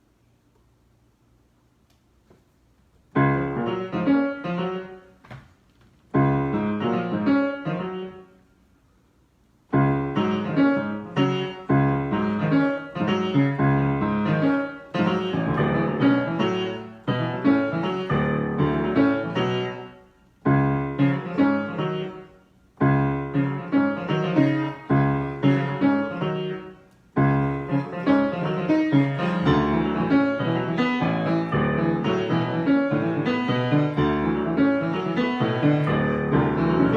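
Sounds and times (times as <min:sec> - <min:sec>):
solo piano improvising: 0:02.9 - 0:08.6, 0:09.6 - 0:36.9.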